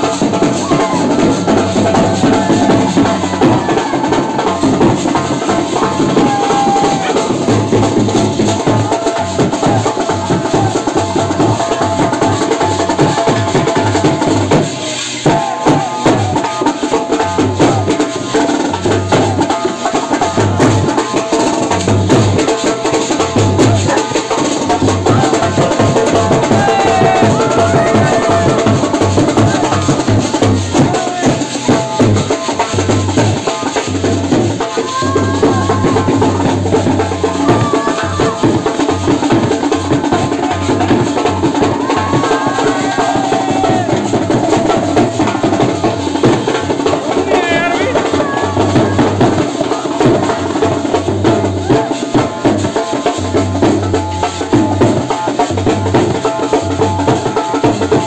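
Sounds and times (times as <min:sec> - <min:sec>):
crowd voices: 0:00.0 - 0:58.0
side drum beating fast: 0:00.0 - 0:58.0.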